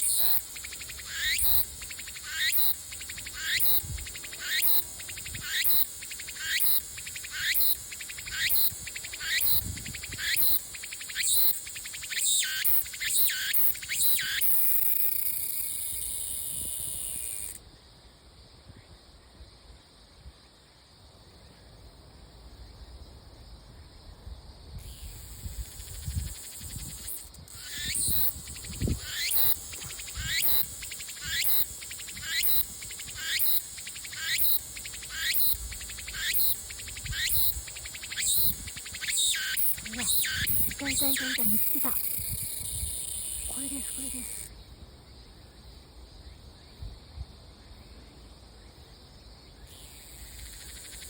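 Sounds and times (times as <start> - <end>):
cicada calls: 0.0 - 19.1, 24.7 - 51.0
cicada steady buzz: 0.0 - 51.0.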